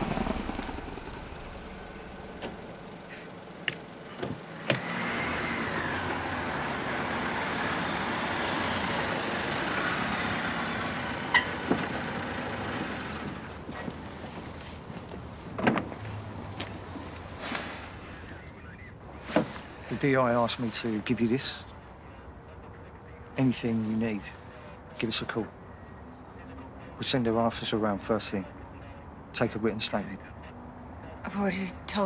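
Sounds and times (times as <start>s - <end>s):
road vehicle passing: 0.0s - 32.0s.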